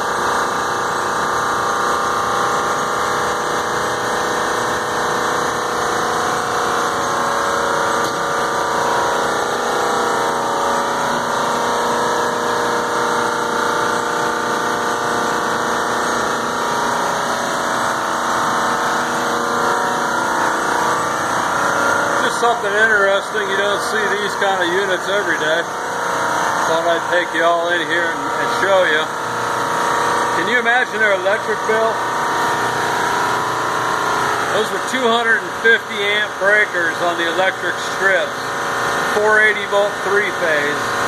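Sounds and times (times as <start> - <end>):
air conditioning drone: 0.0 - 41.0.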